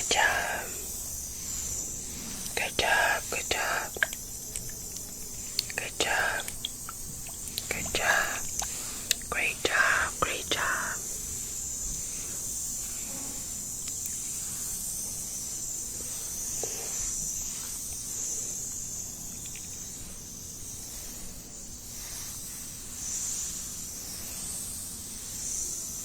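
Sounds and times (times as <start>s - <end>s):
steady high hiss: 0.0s - 26.0s.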